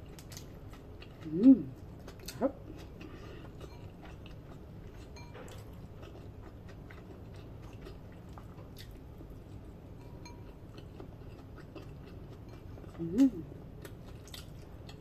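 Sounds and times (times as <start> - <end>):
close-up chewing: 0.0 - 15.0
steady low hum: 0.0 - 15.0.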